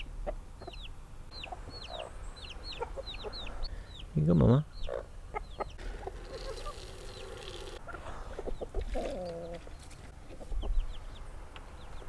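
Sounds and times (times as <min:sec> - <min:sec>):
chickens clucking: 0:00.0 - 0:12.0
high chick peeps: 0:00.0 - 0:12.0.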